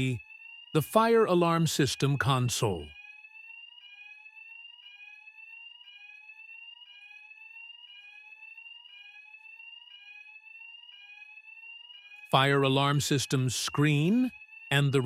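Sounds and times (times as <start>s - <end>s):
fire alarm rising sweep tone: 0.0s - 15.0s.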